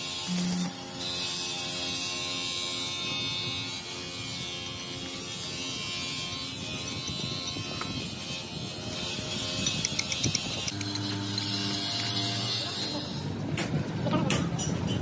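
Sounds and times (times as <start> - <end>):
welding arc buzzing: 0.0 - 13.4.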